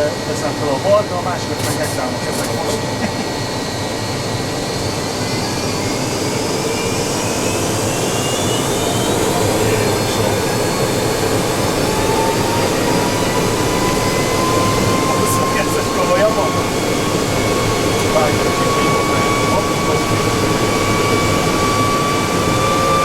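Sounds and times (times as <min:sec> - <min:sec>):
jet engine spooling up: 0:00.0 - 0:23.0.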